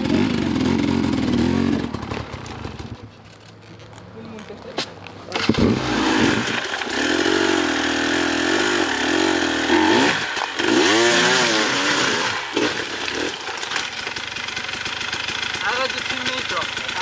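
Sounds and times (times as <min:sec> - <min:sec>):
dirt bike engine revving: 0:00.0 - 0:03.3, 0:05.3 - 0:17.0.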